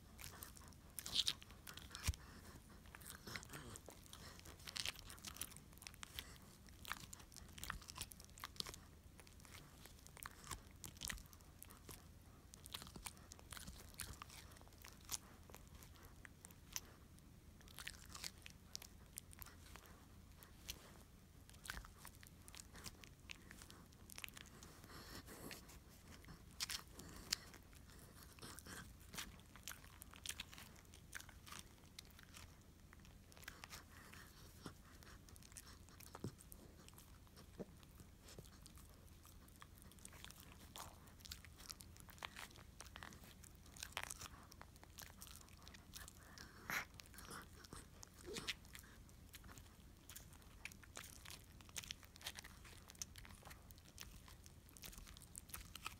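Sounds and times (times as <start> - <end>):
dog gnawing on a bone: 0.0 - 55.9.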